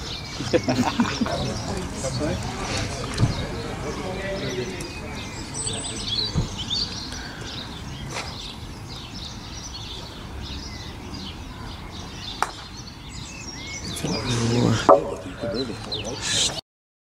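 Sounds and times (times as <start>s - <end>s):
birds chirping and singing: 0.0s - 16.6s.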